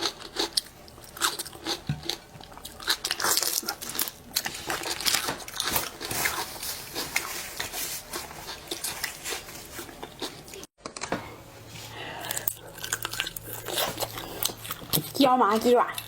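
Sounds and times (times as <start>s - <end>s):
crunchy bites and chewing: 0.0s - 11.1s, 12.2s - 15.2s.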